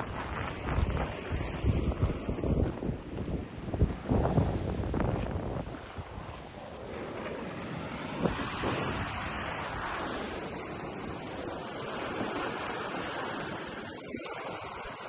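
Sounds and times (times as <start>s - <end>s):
ocean waves breaking on beach: 0.0s - 15.0s
wind rumbling on microphone: 0.0s - 15.0s.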